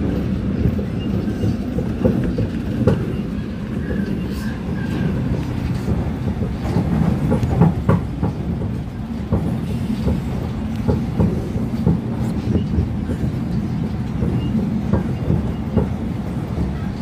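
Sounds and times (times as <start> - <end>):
subway train rumbling: 0.0 - 17.0
wheels clicking over rails: 0.0 - 17.0.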